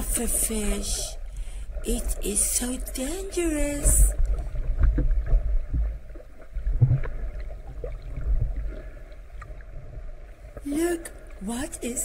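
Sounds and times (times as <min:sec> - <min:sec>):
underwater rumble: 0:00.0 - 0:11.7.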